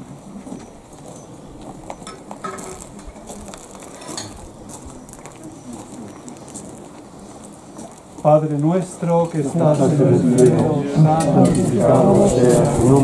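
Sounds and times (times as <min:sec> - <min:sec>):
faint murmured voices: 0:00.0 - 0:13.0.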